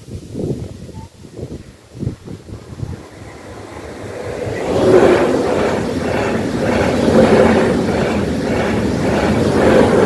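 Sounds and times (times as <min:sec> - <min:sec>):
train wheel and air noise: 0:00.0 - 0:10.0
electric train passing: 0:01.0 - 0:10.0.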